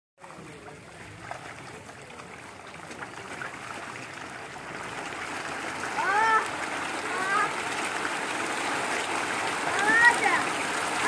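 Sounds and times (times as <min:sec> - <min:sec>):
fish splashing at water surface: 0:00.2 - 0:11.0.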